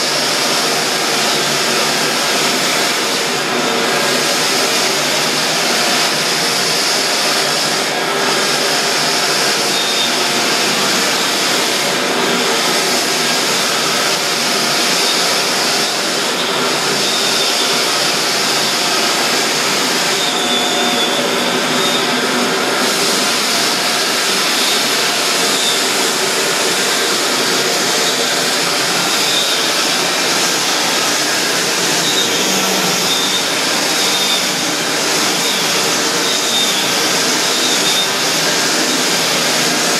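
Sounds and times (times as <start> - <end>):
floor edger running: 0.0 - 39.9
floor sander grinding wood: 0.0 - 39.9.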